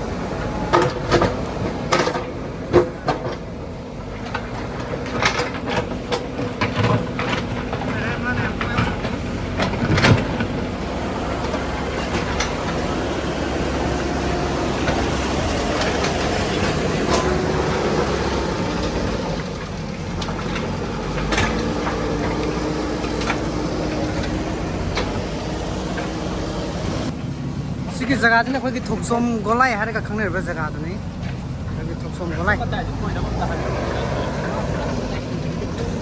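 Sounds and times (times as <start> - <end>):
knocks and clatter: 0.0 - 27.2, 29.8 - 36.0
construction machine engine drone: 0.0 - 36.0.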